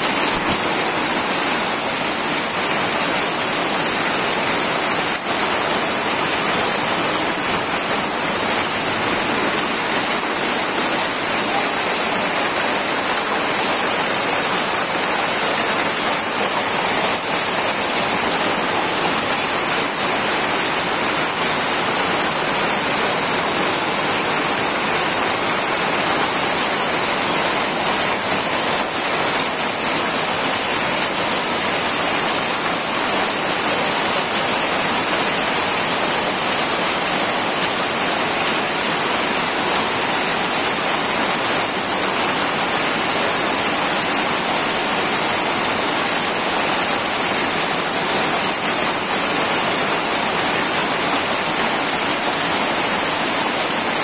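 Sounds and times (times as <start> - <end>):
heavy rain on a tin roof: 0.0 - 54.0
runoff water streaming: 0.0 - 54.0.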